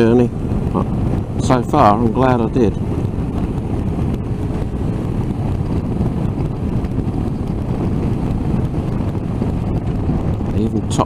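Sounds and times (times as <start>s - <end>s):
motorcycle engine droning: 0.0s - 11.0s
wind buffeting microphone: 0.0s - 11.0s.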